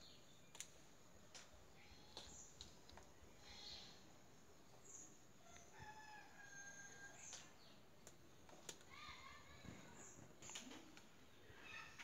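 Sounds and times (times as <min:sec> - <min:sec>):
faint distant bird chirps: 0:01.7 - 0:12.0.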